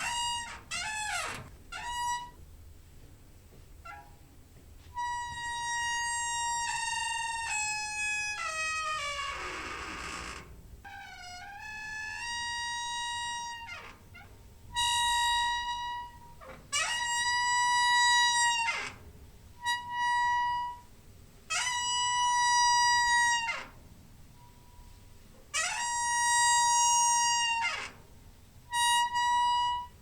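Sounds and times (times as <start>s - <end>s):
squeaky door hinge creaking: 0.0s - 2.4s, 3.8s - 4.3s, 4.9s - 20.9s, 21.5s - 23.8s, 24.4s - 28.1s, 28.7s - 30.0s.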